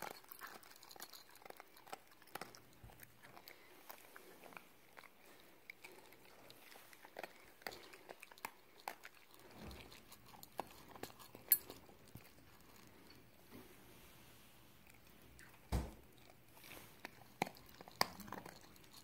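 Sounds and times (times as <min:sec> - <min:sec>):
dog chewing a treat: 0:00.0 - 0:13.4, 0:14.8 - 0:19.0.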